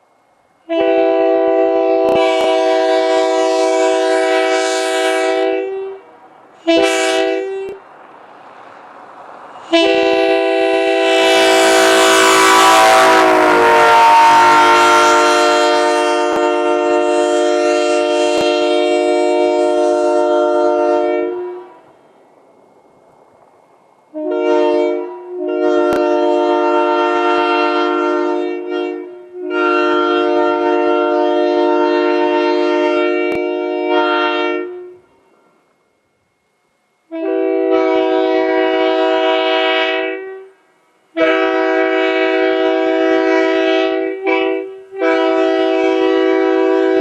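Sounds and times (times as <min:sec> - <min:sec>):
locomotive air horn blasts: 0:00.6 - 0:07.9, 0:09.5 - 0:22.2, 0:24.1 - 0:35.6, 0:37.1 - 0:47.0.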